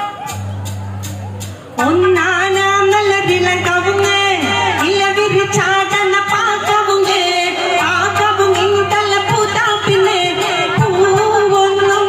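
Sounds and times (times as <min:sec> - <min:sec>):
steady drum beat: 0:00.0 - 0:12.0
woman singing into a microphone: 0:01.8 - 0:12.0.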